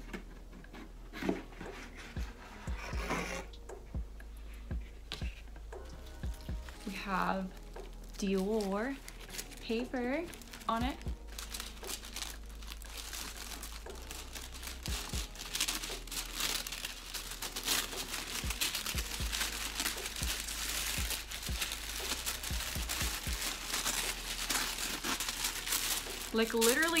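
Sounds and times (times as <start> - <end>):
tissue paper crinkling: 0.8 - 3.6, 4.8 - 27.0.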